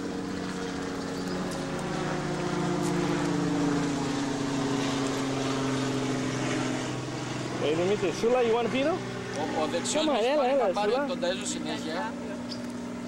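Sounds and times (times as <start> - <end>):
motor running steadily: 0.0 - 13.0.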